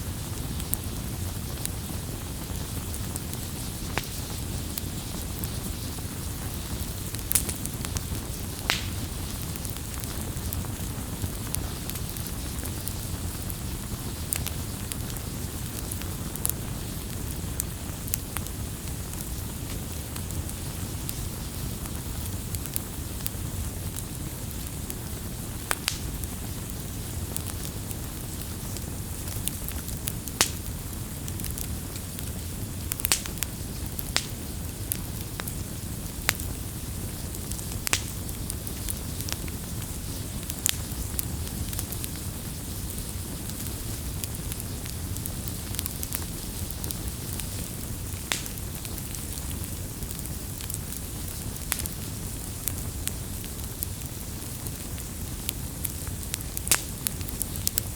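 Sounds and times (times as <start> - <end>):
rumble of flames: 0.0 - 57.9
wood crackling and popping: 0.1 - 57.9.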